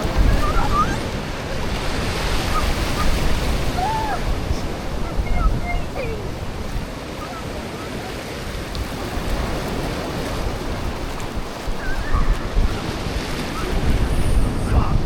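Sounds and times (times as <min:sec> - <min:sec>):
sea waves washing on beach: 0:00.0 - 0:15.0
wind buffeting microphone: 0:00.0 - 0:15.0.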